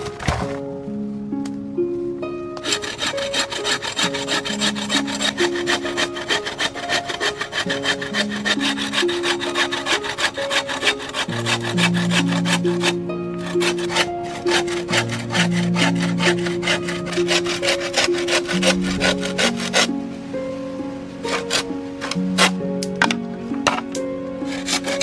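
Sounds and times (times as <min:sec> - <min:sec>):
background music of held notes: 0:00.0 - 0:25.0
hacksaw cutting bamboo: 0:02.6 - 0:19.9, 0:21.2 - 0:25.0.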